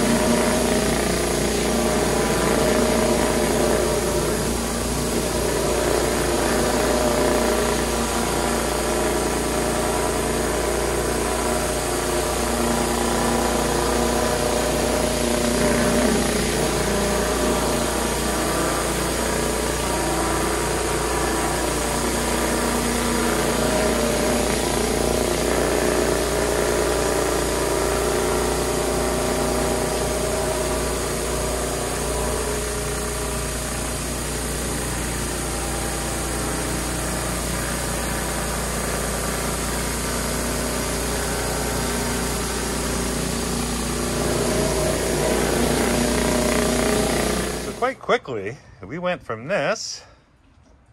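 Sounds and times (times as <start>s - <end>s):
pressure washer spraying water: 0.0s - 47.8s.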